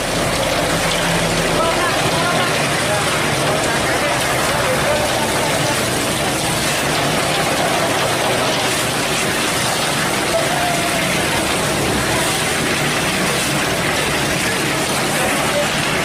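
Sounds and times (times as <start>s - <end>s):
constant rushing noise: 0.0s - 16.0s
truck diesel engine running: 0.0s - 16.0s.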